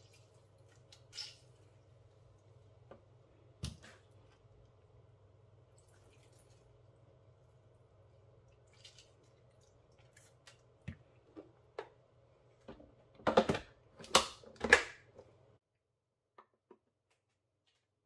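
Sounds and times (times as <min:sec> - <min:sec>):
faint steady hum: 0:00.0 - 0:17.5.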